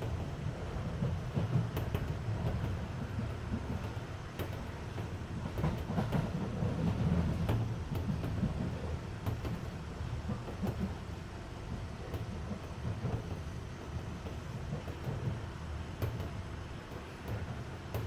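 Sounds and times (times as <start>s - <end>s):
air conditioning running: 0.0s - 18.0s
rail joint clicks: 0.0s - 18.0s
wheels rumbling on rail: 0.0s - 18.0s.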